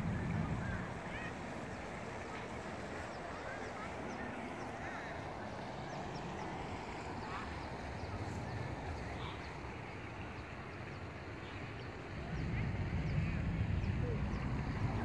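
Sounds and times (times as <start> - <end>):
outdoor background noise: 0.0 - 15.0
faint bird calls: 0.2 - 15.0.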